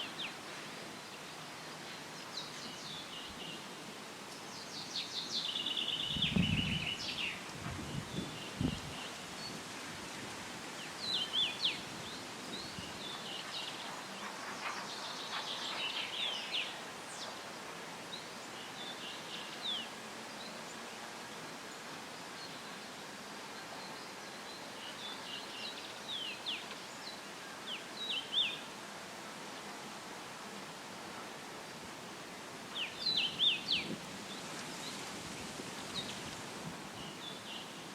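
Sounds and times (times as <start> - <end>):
leaves rustling in breeze: 0.0 - 37.9
songbirds chirping: 0.0 - 37.9.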